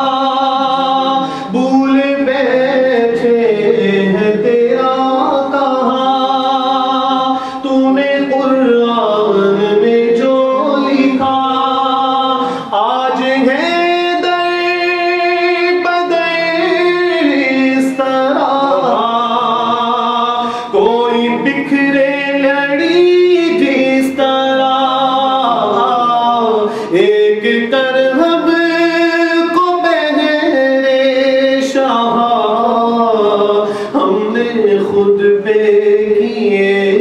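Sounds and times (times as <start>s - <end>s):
man singing unaccompanied: 0.0s - 37.0s.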